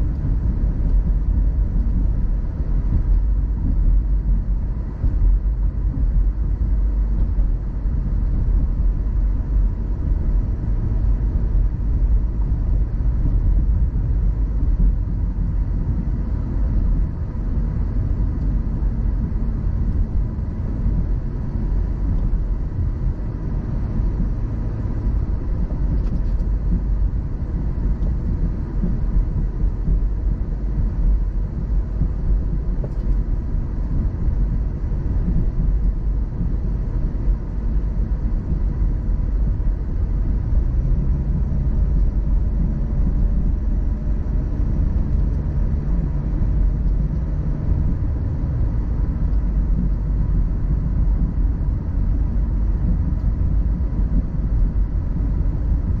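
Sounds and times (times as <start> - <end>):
car driving at steady speed: 0.0 - 56.0.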